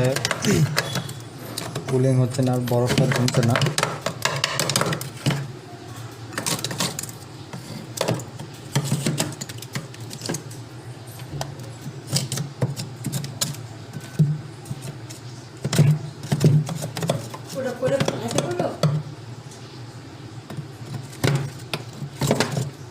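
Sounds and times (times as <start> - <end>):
ice being chipped: 0.0 - 5.5, 6.4 - 10.4, 11.6 - 18.8, 20.8 - 22.8.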